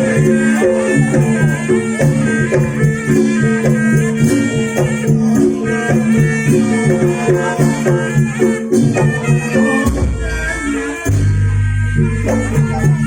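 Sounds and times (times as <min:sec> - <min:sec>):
pitched struck notes: 0:00.0 - 0:13.0
traditional dance music: 0:00.0 - 0:13.0.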